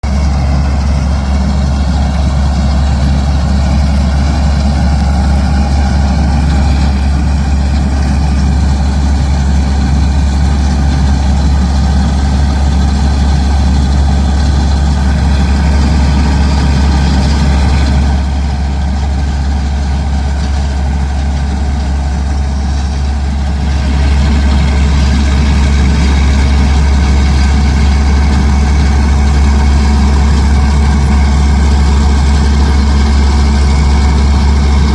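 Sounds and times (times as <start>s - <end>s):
heavy machinery engine running: 0.0s - 34.9s.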